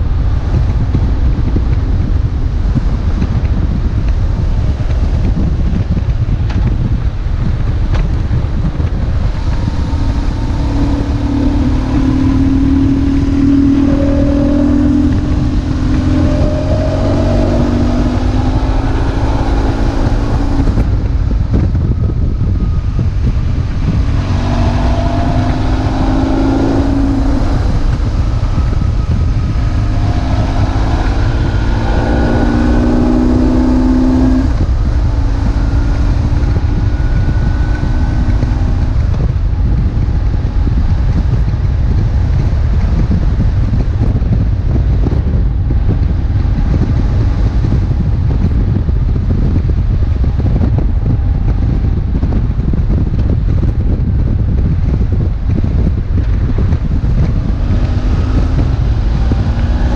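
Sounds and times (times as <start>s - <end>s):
motorcycle engine accelerating: 0.0s - 59.9s
wind on microphone: 0.0s - 59.9s.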